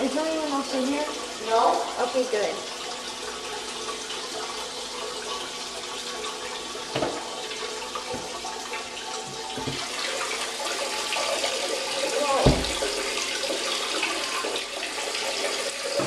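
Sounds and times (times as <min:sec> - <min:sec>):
water running: 0:00.0 - 0:16.0.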